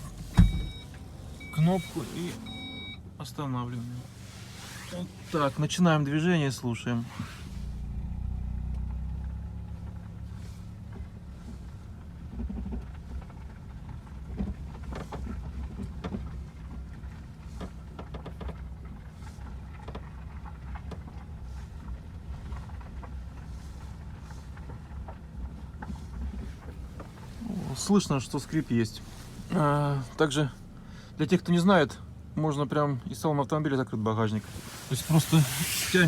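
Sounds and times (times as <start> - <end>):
road and engine rumble: 0.0 - 36.0.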